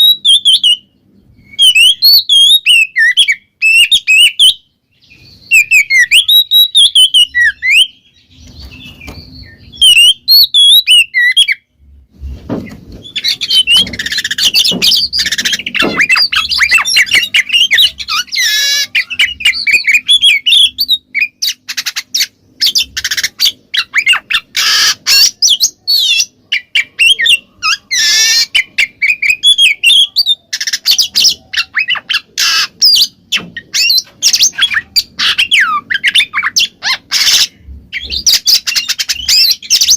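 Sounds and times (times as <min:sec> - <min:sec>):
harsh rasping bird calls: 0:00.0 - 0:11.7, 0:12.5 - 0:39.9
magpie-robin singing: 0:00.0 - 0:11.7, 0:12.9 - 0:39.9.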